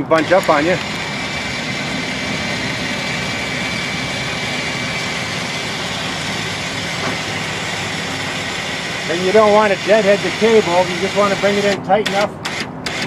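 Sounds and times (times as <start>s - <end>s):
machinery whining: 0.0s - 13.0s.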